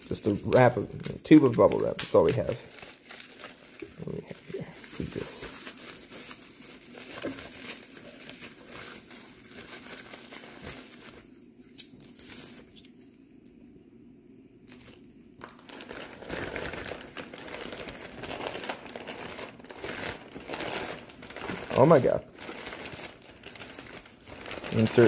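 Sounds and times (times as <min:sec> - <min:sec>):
packing material crinkling: 0:00.0 - 0:13.3, 0:14.7 - 0:25.0.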